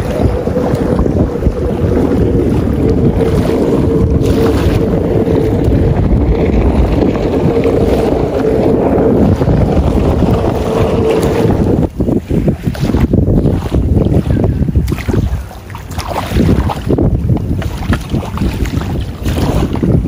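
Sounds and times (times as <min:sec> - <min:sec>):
jet ski engine droning: 0:00.0 - 0:20.0
wind buffeting microphone: 0:00.0 - 0:20.0.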